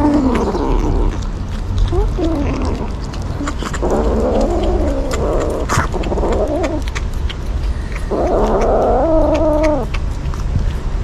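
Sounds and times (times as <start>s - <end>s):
kitten yowling and growling: 0.0s - 7.2s, 7.9s - 10.4s.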